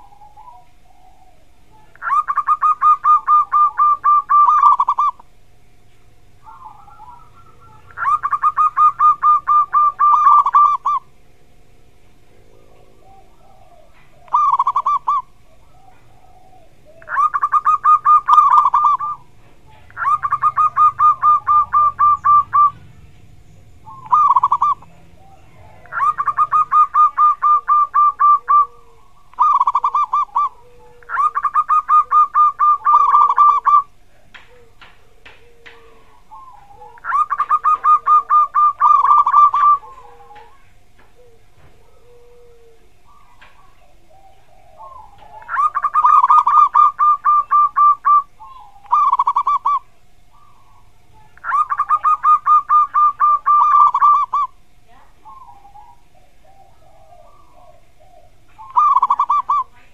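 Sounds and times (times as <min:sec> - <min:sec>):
dove cooing: 0:00.0 - 0:05.5, 0:06.2 - 0:59.9.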